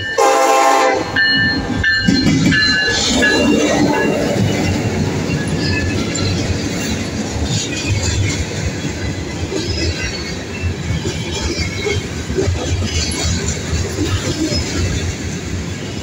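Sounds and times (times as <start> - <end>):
diesel locomotive passing: 0.0 - 16.0
train wheels rumbling on rails: 0.0 - 16.0.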